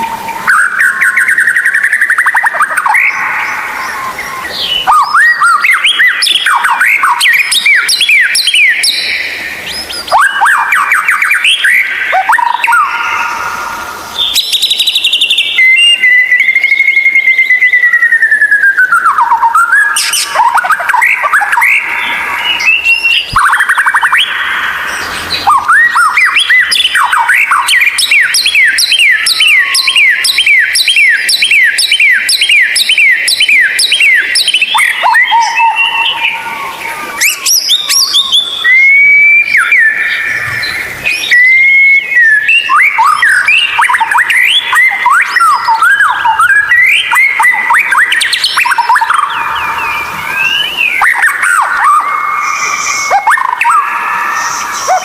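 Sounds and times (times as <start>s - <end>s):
songbird singing whistles: 0.0s - 55.0s.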